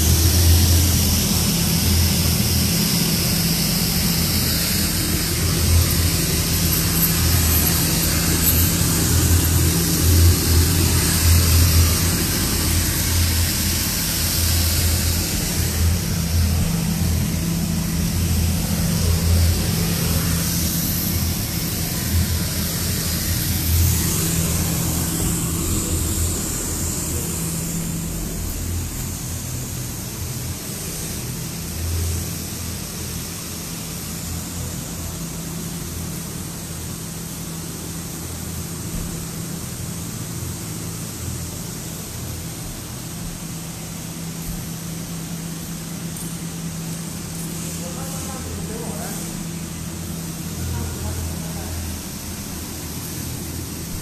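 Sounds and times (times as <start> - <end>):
blower fan hum: 0.0 - 54.0.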